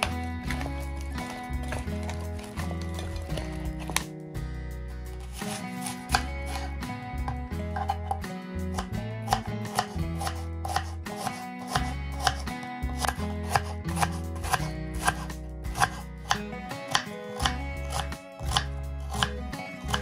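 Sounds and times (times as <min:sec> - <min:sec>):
music with steady beat: 0:00.0 - 0:20.0.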